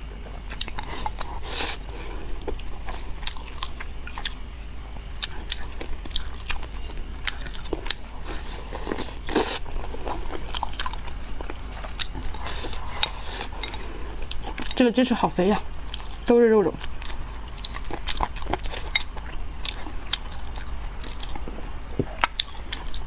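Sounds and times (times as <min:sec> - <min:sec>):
person chewing and biting food: 0:00.4 - 0:14.8, 0:15.6 - 0:23.0.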